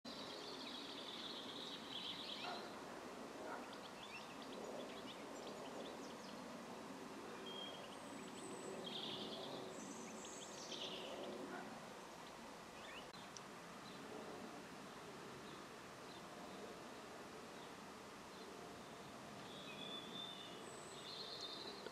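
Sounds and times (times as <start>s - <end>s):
birds chirping: 0.1s - 6.6s, 7.3s - 14.2s, 17.5s - 21.9s
steady background noise: 0.1s - 21.9s.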